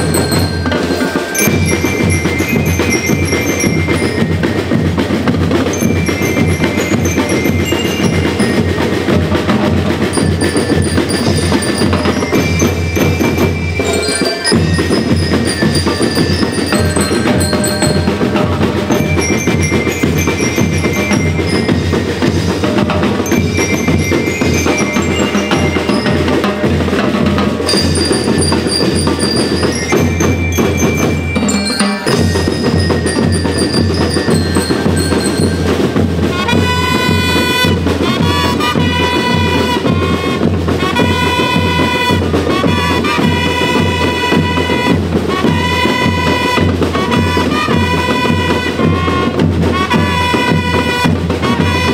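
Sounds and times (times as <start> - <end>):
bell lyres melody: 0.0 - 51.9
snare and bass drums: 0.0 - 51.9.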